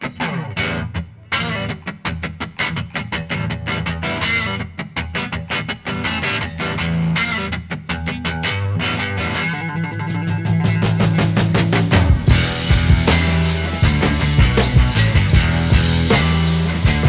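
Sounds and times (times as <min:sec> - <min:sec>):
rock music with picked guitar: 0:00.0 - 0:17.0.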